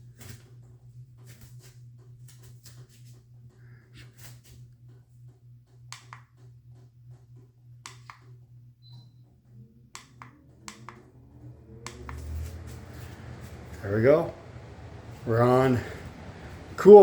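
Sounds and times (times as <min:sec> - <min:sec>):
air conditioner motor hum: 0:00.0 - 0:17.0
low electrical hum: 0:00.0 - 0:17.0.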